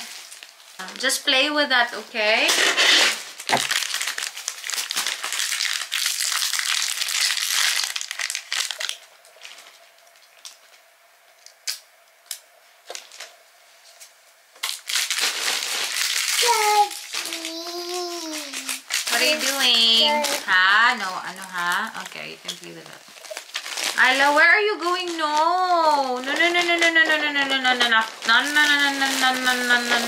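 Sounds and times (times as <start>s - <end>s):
packaging crinkling: 0.0s - 1.2s, 2.8s - 13.4s, 14.6s - 30.0s.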